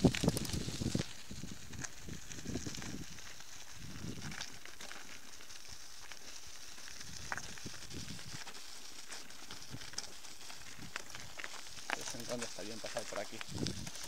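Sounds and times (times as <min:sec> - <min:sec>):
bicycle tyres rolling on gravel: 0:00.0 - 0:14.0.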